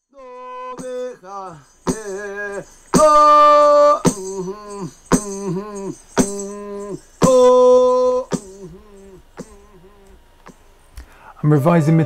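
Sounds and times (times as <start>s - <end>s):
man singing a chant: 0.0s - 10.2s
rattle strokes: 0.7s - 10.6s.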